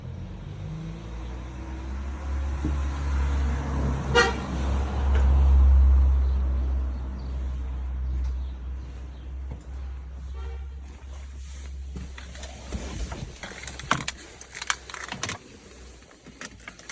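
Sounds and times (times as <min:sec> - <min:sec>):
car engine and exhaust rumble: 0:00.0 - 0:16.9.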